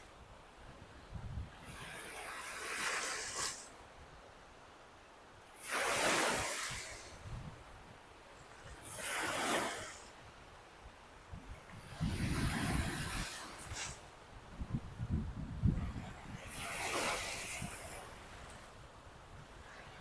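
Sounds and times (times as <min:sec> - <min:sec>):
soft hiss of water: 0:00.0 - 0:20.0
waves breaking on shore: 0:00.0 - 0:20.0.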